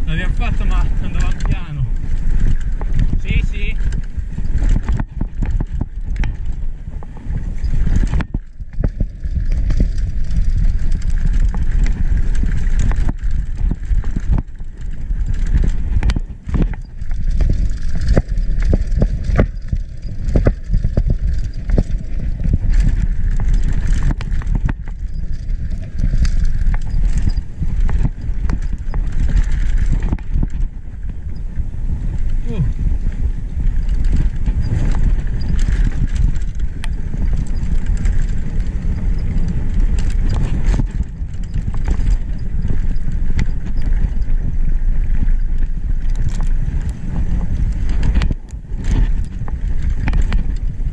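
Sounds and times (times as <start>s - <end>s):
bike knocks and rattles: 0.0s - 50.9s
wind rumble on microphone: 0.0s - 50.9s.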